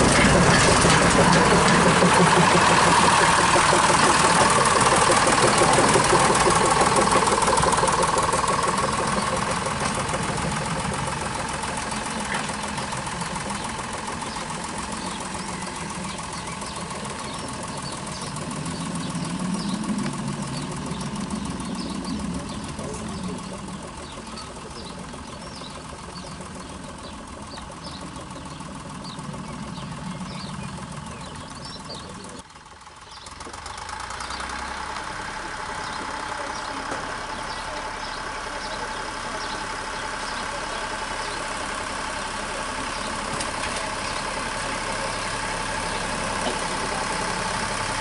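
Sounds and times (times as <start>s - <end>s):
locomotive diesel engine running: 0.0s - 48.0s.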